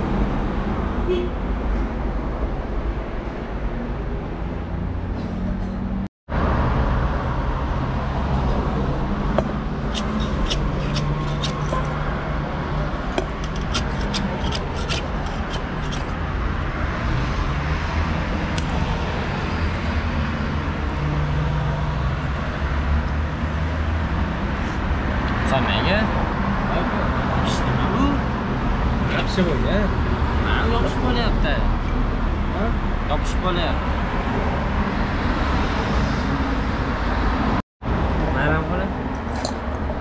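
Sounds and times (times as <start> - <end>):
low traffic rumble: 0.0 - 40.0.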